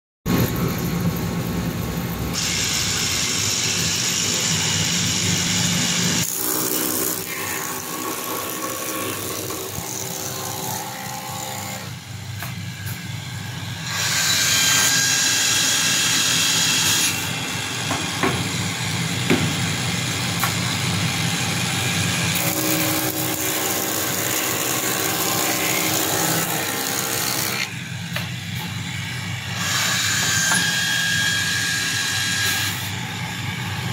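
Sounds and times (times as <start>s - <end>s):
hissy wood cutting noise: 0.3s - 33.9s.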